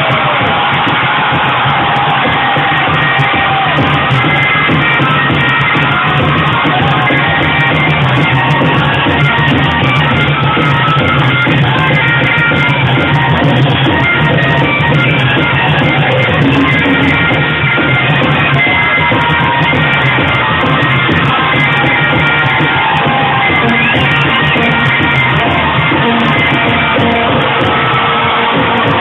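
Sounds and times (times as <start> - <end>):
rock band music: 0.0 - 29.0.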